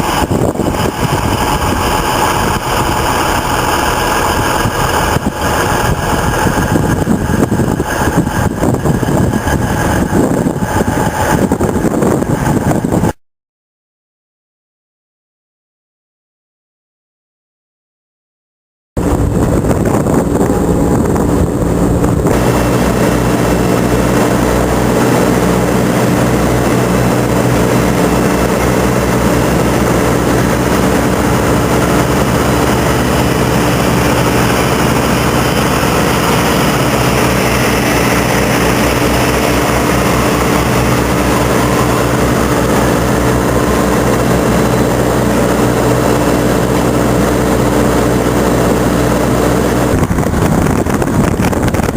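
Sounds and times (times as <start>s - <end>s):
heavy truck engine running: 0.0s - 13.2s, 19.0s - 51.9s.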